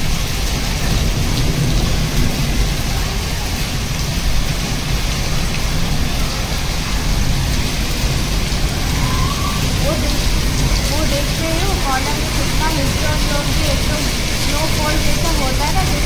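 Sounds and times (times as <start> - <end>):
heavy rain and hail on concrete: 0.0 - 16.0.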